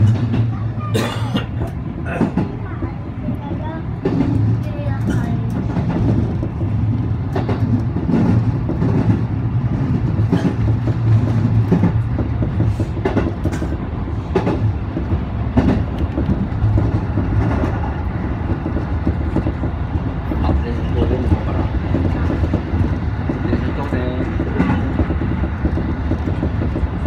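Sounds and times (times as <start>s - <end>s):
train low rumble: 0.0s - 27.0s
wheels clicking over rails: 1.4s - 27.0s.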